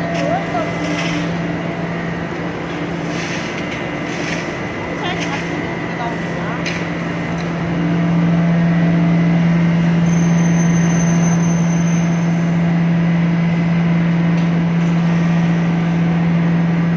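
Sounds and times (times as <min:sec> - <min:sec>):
loud machine hum: 0:00.0 - 0:16.9.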